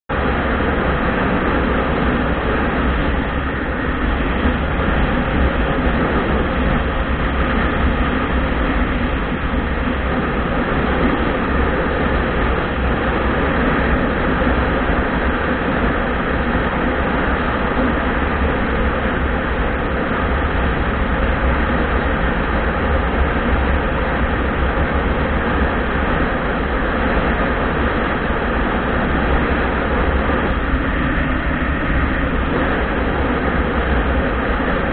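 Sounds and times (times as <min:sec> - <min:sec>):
wind rush over microphone: 0:00.1 - 0:34.9.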